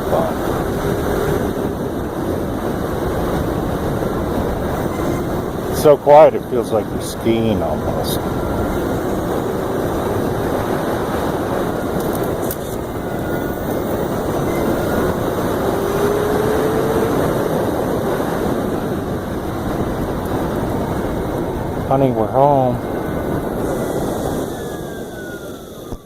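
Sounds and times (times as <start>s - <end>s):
faint rising whine: 0.0s - 26.0s
wind and road noise rushing: 0.0s - 26.0s.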